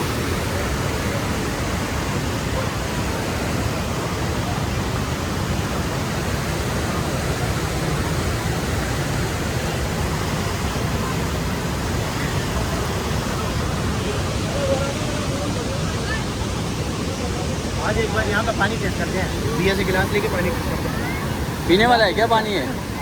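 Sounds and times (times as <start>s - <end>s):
fast river rushing: 0.0s - 23.0s.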